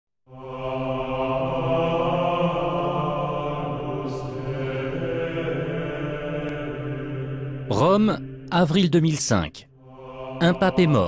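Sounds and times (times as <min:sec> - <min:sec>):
low voices chanting: 0:00.3 - 0:08.8, 0:09.7 - 0:11.0
steady drone: 0:00.3 - 0:08.8, 0:09.7 - 0:11.0.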